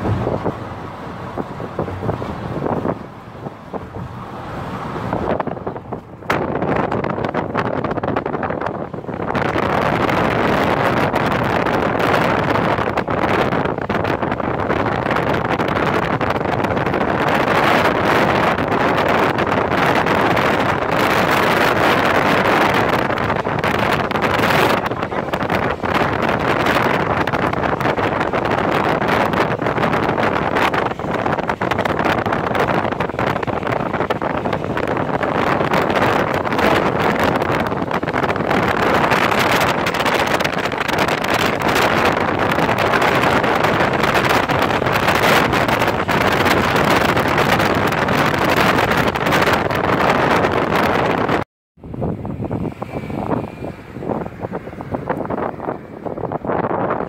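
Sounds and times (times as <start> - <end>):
vehicle running noise: 0.0 - 57.0
wind rushing over microphone: 0.0 - 57.0.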